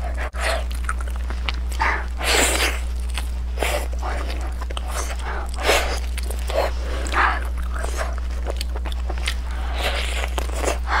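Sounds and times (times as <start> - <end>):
person chewing wetly: 0.0 - 11.0
steady low hum: 0.0 - 11.0.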